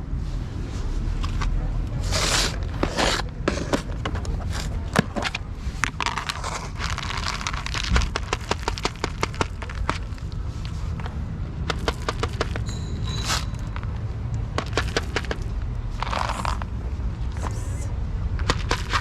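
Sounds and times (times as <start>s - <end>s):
low background rumble: 0.0s - 19.0s
crinkling and rustling: 0.6s - 17.7s, 18.3s - 19.0s.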